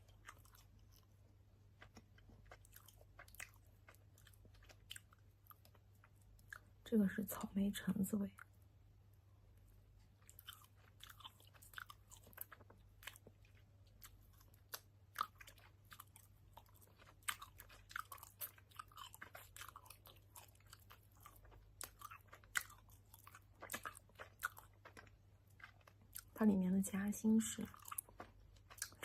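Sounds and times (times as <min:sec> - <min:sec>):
person chewing with wet smacks: 0:00.0 - 0:06.8, 0:09.9 - 0:29.0
low steady hum: 0:00.0 - 0:29.0.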